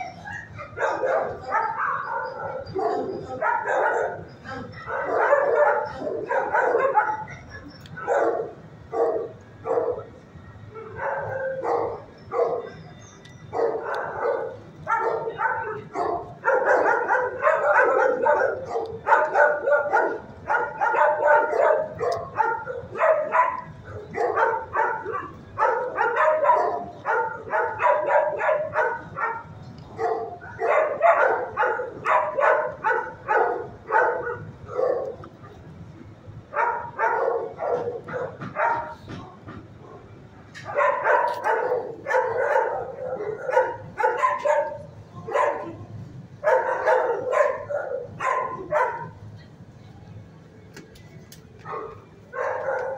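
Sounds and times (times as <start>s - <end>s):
dogs barking: 0.0s - 35.7s, 36.5s - 49.3s, 51.6s - 52.9s.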